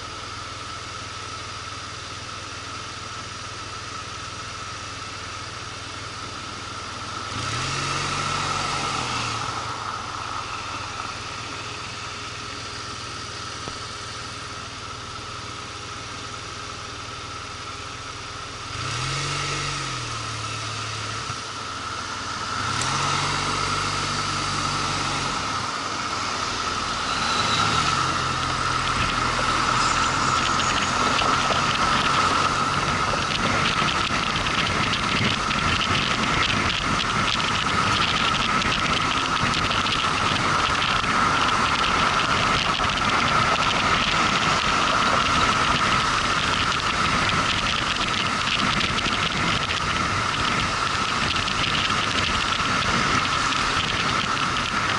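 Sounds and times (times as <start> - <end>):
steady high whine: 0.0 - 54.9
motorcycle engine revving: 3.0 - 54.9.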